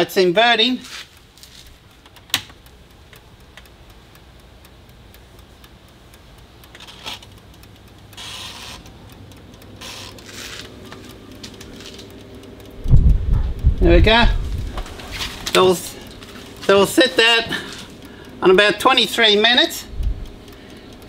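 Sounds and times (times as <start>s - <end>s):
faint regular ticking: 0.0s - 21.0s
low steady hum: 1.2s - 21.0s.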